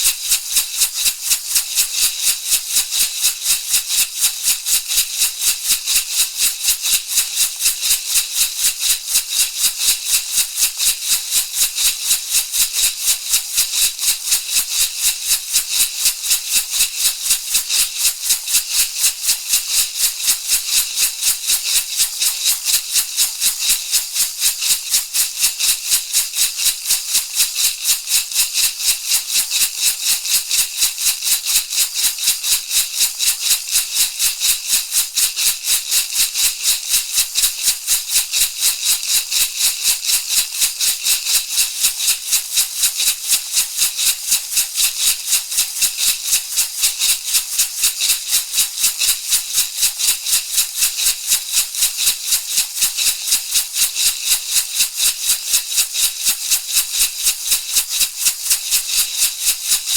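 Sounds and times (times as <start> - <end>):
rattle shaken rhythmically: 0.0 - 59.9.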